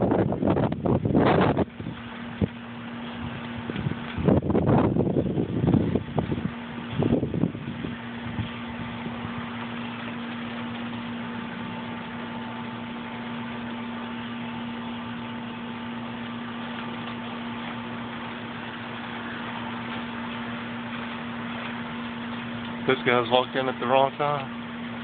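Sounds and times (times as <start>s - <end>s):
steady machine hum: 0.0s - 25.0s.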